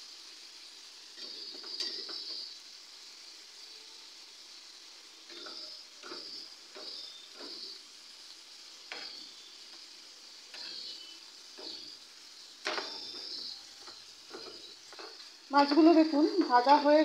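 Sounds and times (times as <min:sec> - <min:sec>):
prawns sizzling in oil: 0:00.0 - 0:17.0.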